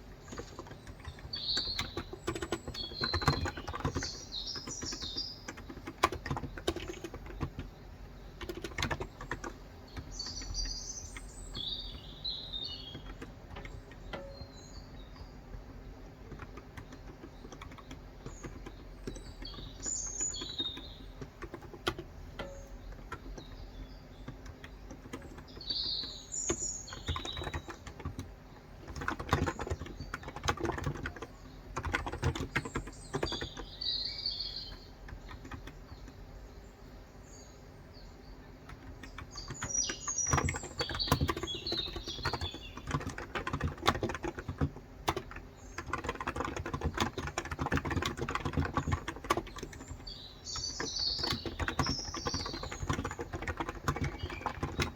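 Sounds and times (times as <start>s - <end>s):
fast typing on keyboard: 0.0s - 36.4s, 38.5s - 54.9s
birds chirping: 0.0s - 54.9s.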